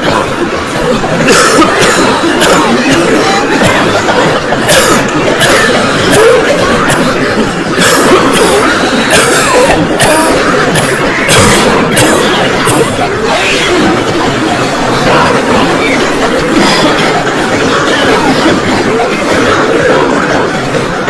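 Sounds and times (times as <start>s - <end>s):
crowd coughing: 0.0s - 21.0s
voices: 0.0s - 21.0s.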